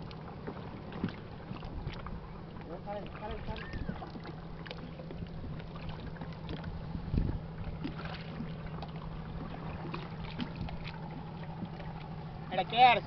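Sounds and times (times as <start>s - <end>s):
steady low hum: 0.0s - 13.0s
water sounds: 0.0s - 13.0s.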